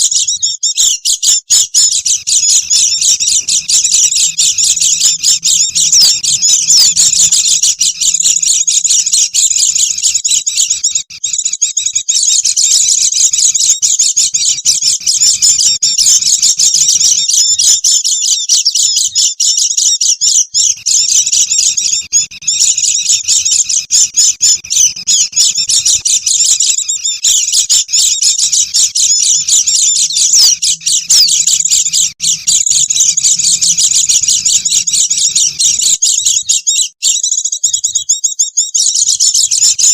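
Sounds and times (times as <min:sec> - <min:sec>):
flock of birds twittering: 0:00.0 - 0:39.9.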